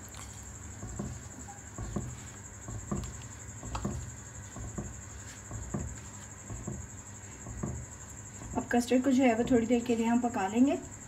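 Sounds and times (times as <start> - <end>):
spatula stirring liquid in pan: 0.0 - 10.1.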